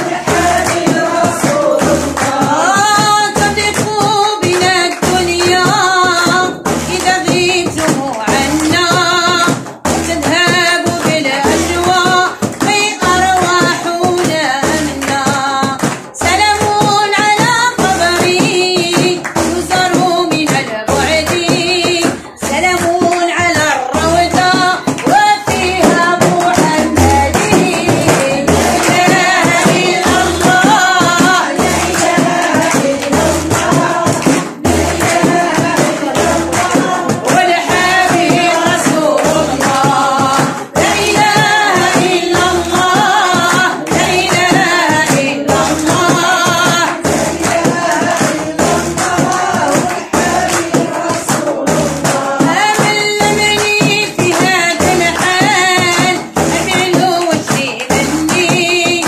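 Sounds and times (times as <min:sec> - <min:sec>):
frame drums beating: 0:00.0 - 0:59.0
woman singing a chant: 0:00.0 - 0:59.0.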